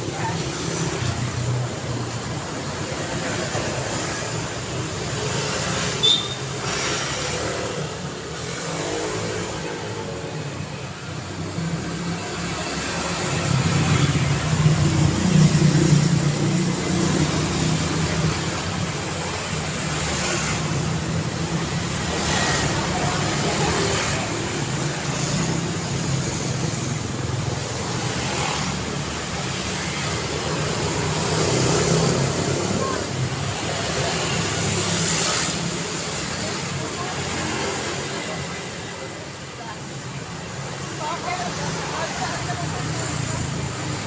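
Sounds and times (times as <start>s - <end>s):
loud vehicle engine: 0.0s - 44.0s
street traffic passing: 0.0s - 44.0s
vehicles swishing past: 0.0s - 44.0s.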